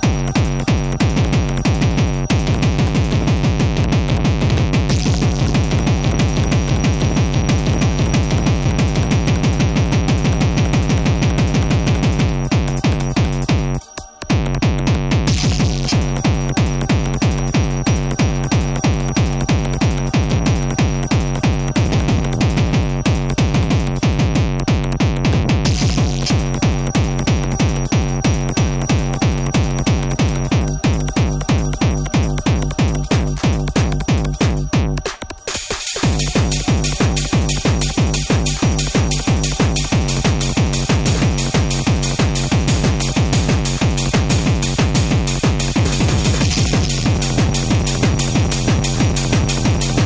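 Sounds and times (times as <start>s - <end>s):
constant high synth tone: 0.0s - 50.0s
fast electronic techno beat: 0.0s - 50.0s.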